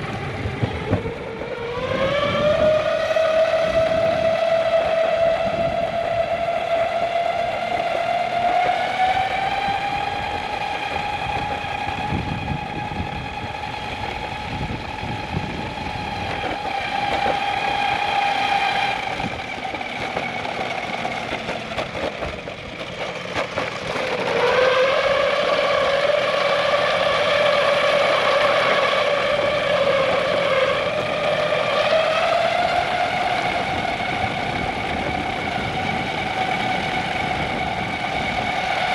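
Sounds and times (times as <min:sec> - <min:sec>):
electric motors whining: 0:00.0 - 0:38.9
wheels rolling: 0:00.0 - 0:38.9.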